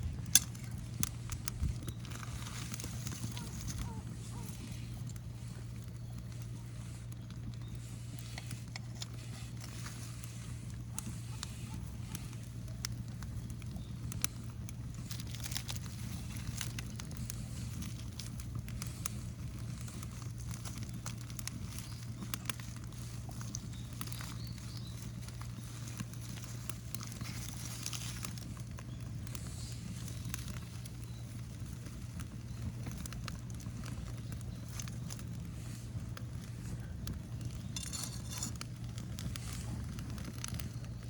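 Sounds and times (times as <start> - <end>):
bonfire crackling: 0.0 - 41.0.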